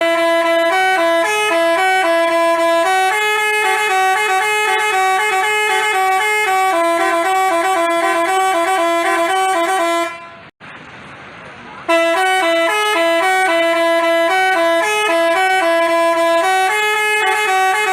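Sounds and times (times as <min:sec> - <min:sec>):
multi-tone bus horn melody: 0:00.0 - 0:10.6, 0:11.9 - 0:17.9.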